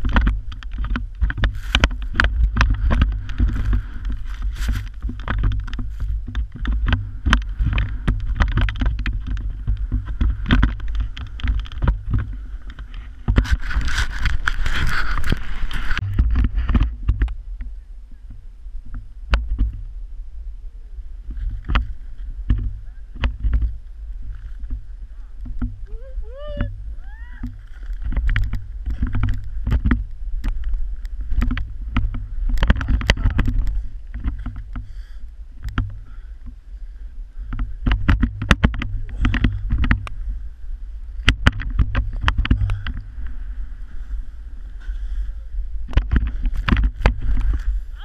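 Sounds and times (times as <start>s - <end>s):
wind rumbling on microphone: 0.0s - 48.0s.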